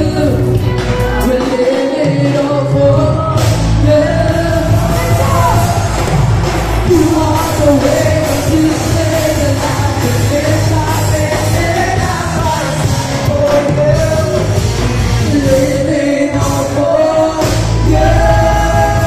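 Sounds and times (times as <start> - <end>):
person singing: 0.0 - 19.0
rock band music: 0.0 - 19.0.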